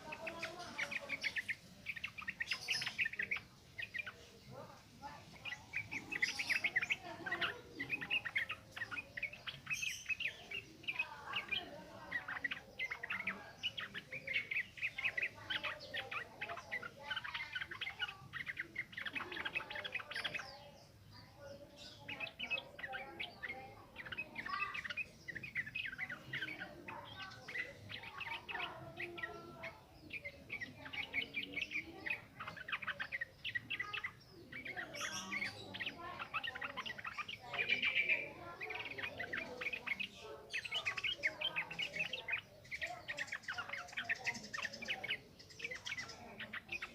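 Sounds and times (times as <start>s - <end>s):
bird singing chattering notes: 0.0s - 46.9s.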